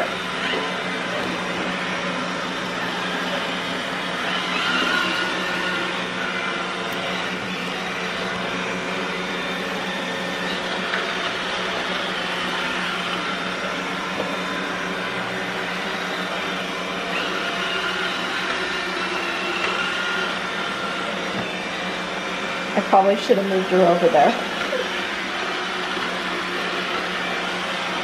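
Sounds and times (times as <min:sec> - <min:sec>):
robot vacuum motor and brush hum: 0:00.0 - 0:28.0.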